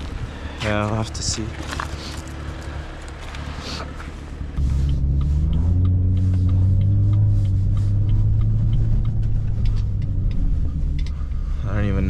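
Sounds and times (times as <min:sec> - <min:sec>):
car engine pulling away: 0:00.7 - 0:12.0.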